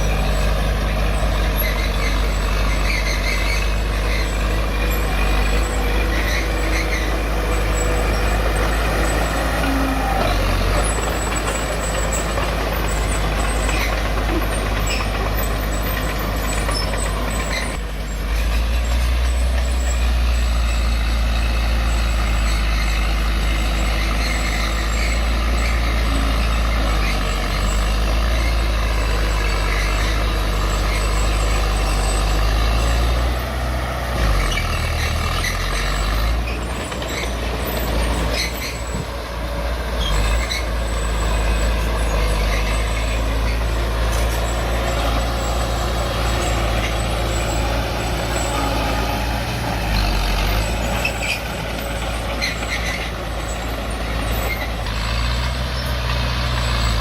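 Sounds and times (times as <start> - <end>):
diesel machinery engine rumble: 0.0 - 57.0.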